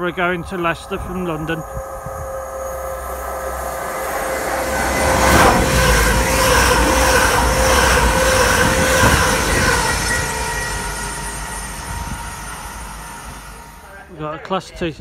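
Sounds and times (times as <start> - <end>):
train rumbling with whining tones: 0.0 - 14.5.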